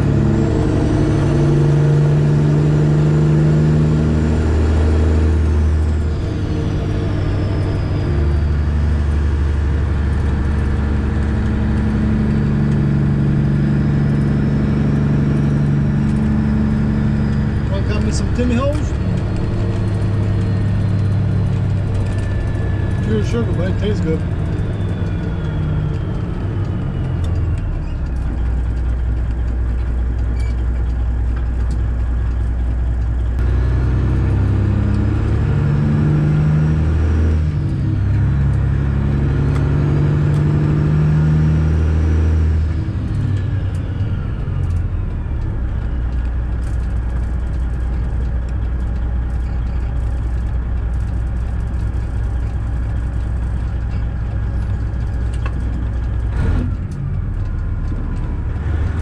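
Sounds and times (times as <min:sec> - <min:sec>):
truck diesel engine: 0:00.0 - 0:59.0.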